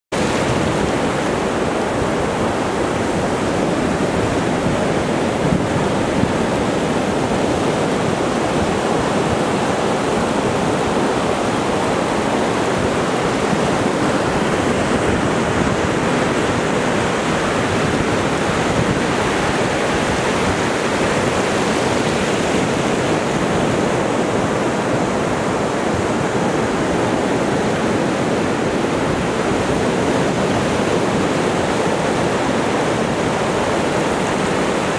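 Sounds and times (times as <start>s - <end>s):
ocean surf washing up beach: 0.2s - 34.9s.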